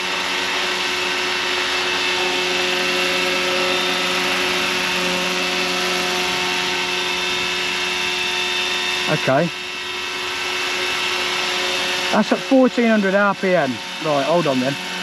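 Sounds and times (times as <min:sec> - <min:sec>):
model helicopter rotor whine: 0:00.0 - 0:15.0.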